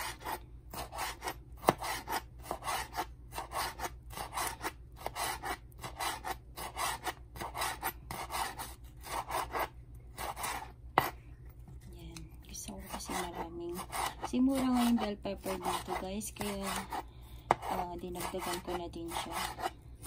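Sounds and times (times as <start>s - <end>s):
knife slicing pepper on board: 0.0s - 11.2s, 12.8s - 19.7s.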